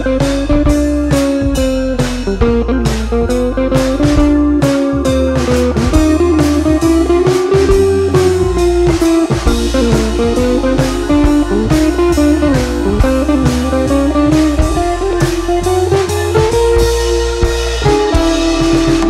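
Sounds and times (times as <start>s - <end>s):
blues music with guitar drums bass: 0.0s - 19.0s.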